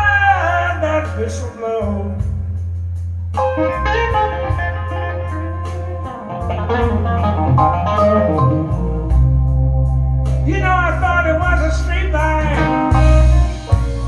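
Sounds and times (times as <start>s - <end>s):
blues music through speakers: 0.0s - 14.0s.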